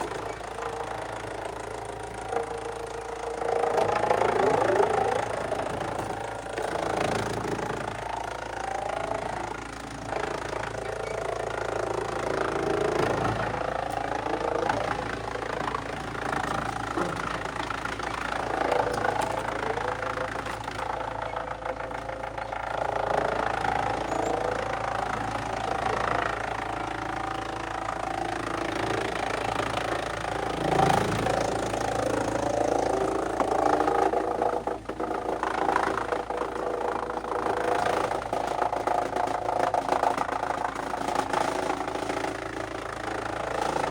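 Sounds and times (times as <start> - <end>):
wood shredder running: 0.0 - 43.9.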